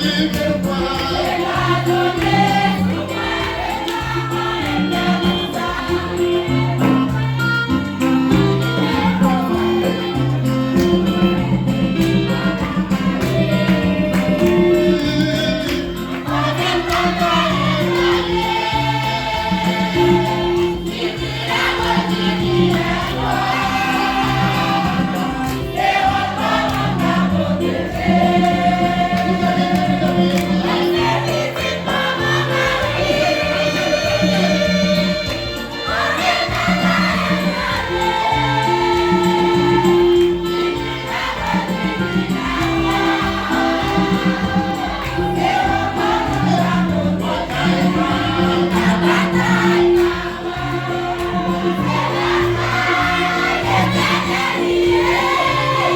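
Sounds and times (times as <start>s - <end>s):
church choir singing: 0.0s - 55.9s
instrumental accompaniment: 0.0s - 55.9s.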